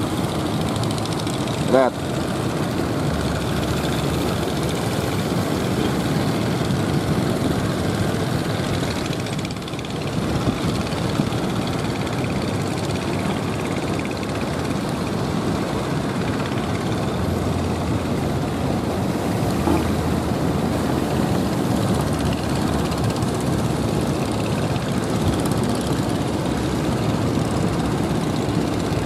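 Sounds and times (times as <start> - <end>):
boat engines running: 0.0 - 29.0
waves breaking: 0.0 - 29.0.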